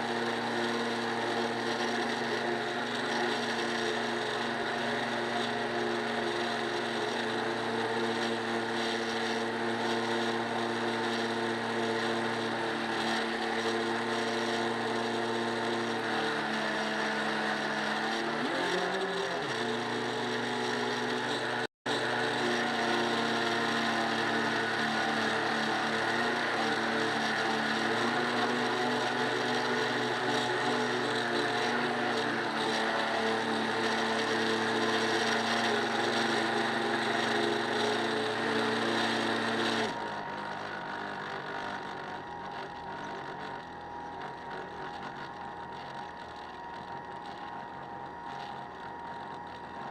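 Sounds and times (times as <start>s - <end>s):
steady motor drone: 0.0s - 49.9s.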